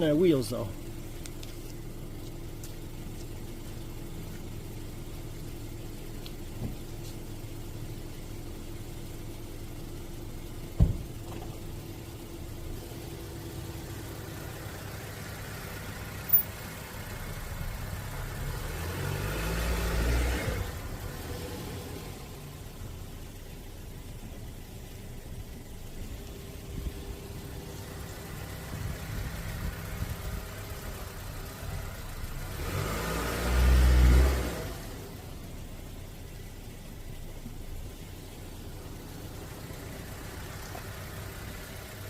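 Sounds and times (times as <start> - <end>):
car engine idling: 0.0 - 19.3, 20.6 - 32.9, 34.4 - 42.0.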